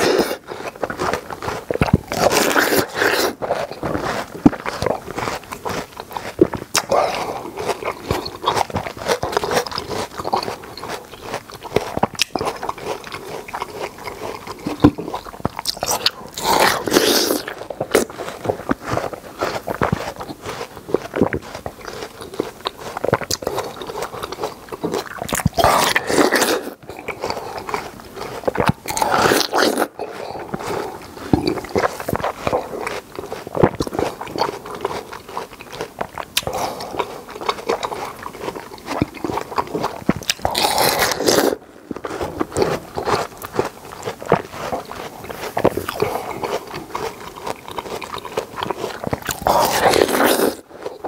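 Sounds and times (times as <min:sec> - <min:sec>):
watermelon crunching and chewing: 0:00.0 - 0:51.0.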